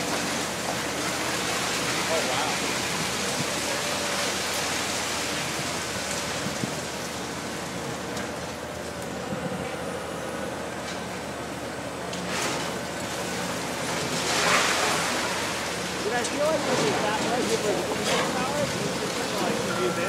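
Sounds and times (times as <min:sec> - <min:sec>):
excavator running: 0:00.0 - 0:20.0.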